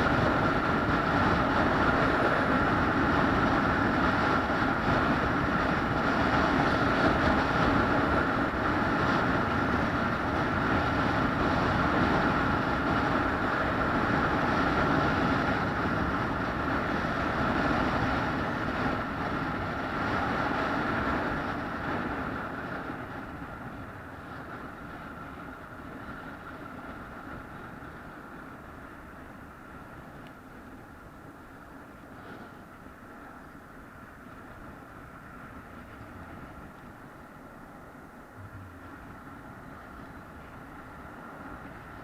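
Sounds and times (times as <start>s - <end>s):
vehicle engine droning: 0.0s - 42.0s.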